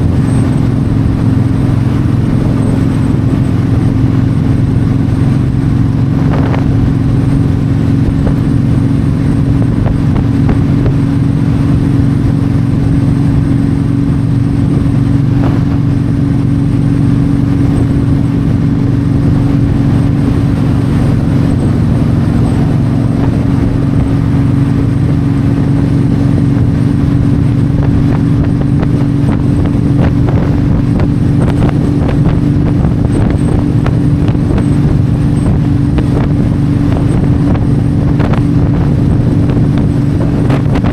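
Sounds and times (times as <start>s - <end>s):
motorcycle engine cruising: 0.0s - 40.9s
wind rushing past microphone: 0.0s - 40.9s.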